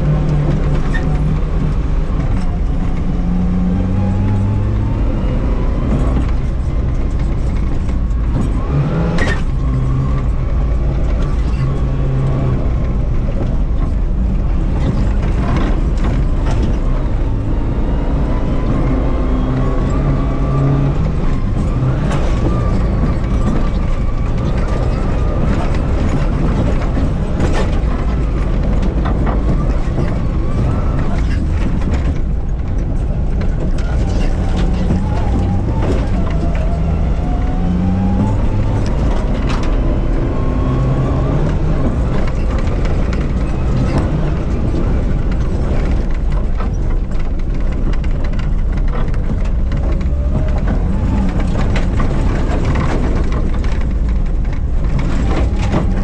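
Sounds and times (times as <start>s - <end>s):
rally car engine running hard: 0.0s - 56.0s.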